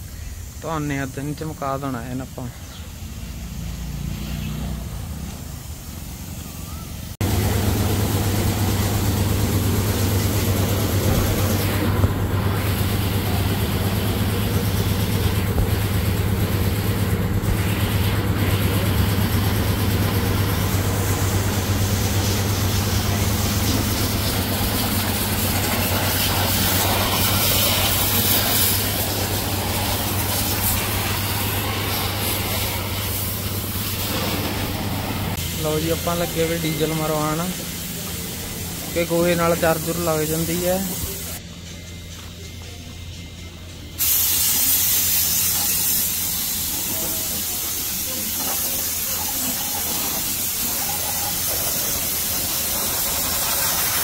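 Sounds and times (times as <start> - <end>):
water jet hissing: 0.0 - 41.4, 44.0 - 54.0
pressure washer motor hum: 3.3 - 42.7, 43.9 - 54.0.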